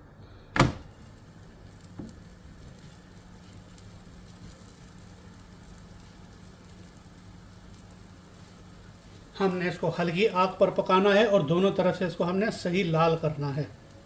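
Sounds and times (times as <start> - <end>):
flatbread sizzling on a griddle: 0.8 - 14.0.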